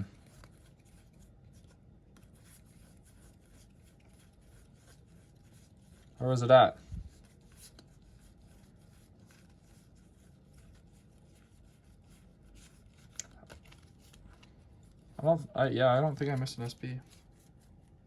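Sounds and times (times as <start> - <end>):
trading cards rustling and sliding: 0.1 - 18.0.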